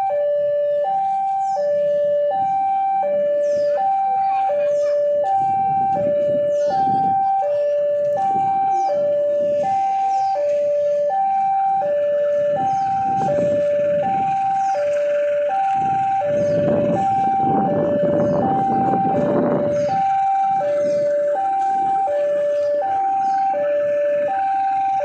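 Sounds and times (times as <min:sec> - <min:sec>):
electronic two-tone alarm: 0:00.0 - 0:25.0.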